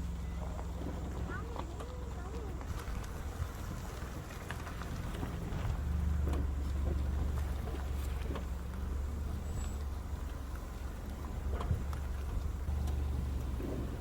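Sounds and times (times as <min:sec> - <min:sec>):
vehicle engine under load: 0:00.0 - 0:14.0.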